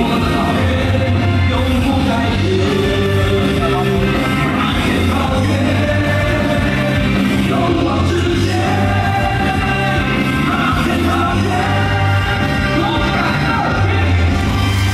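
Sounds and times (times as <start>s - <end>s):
cheer song with sung vocals: 0.0s - 14.9s.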